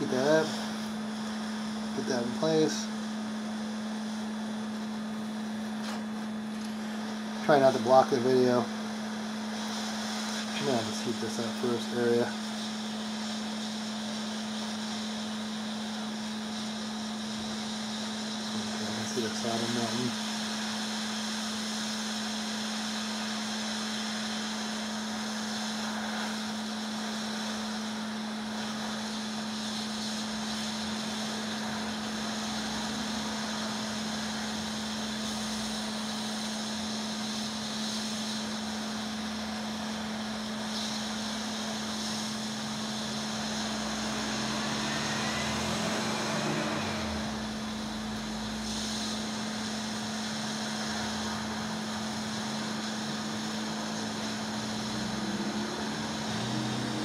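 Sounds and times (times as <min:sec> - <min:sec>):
hot air blower hissing: 0:00.0 - 0:57.0.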